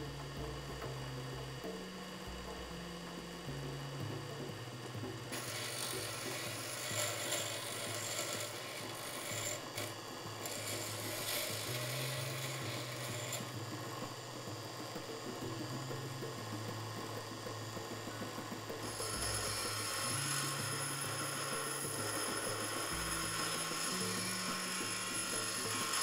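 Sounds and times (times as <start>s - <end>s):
bench grinder grinding steel: 2.8s - 26.0s.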